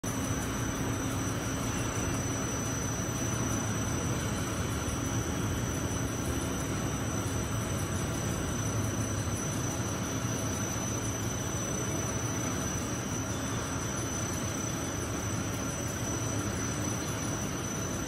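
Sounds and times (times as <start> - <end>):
high steady whine: 0.0 - 18.0
machinery low hum: 0.0 - 18.0.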